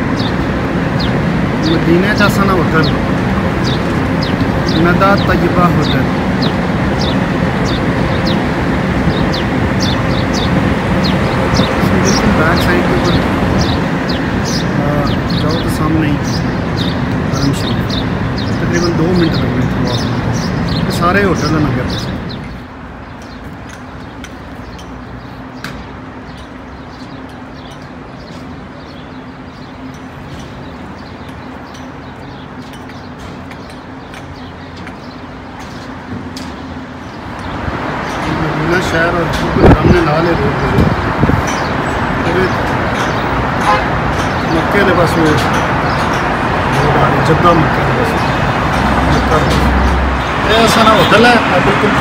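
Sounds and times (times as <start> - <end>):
birds chirping: 0.0 - 52.0
street traffic rumble: 0.0 - 52.0.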